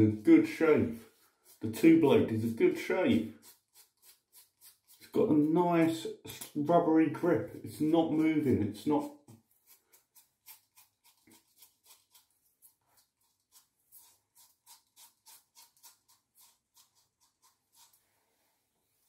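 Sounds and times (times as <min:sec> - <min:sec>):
razor scraping stubble: 0:00.0 - 0:06.7, 0:07.6 - 0:18.0.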